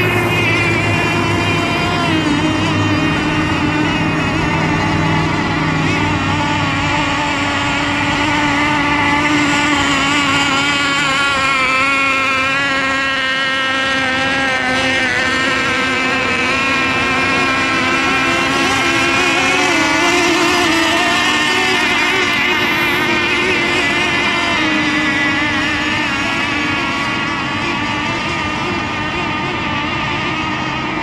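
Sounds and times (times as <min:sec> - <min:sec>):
racing boat engines buzzing: 0:00.0 - 0:31.0.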